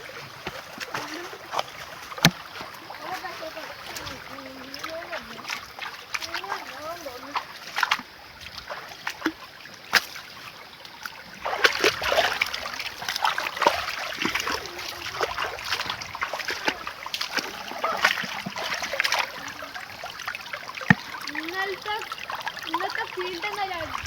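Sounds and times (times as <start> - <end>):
water splashing in stream: 0.0 - 24.0.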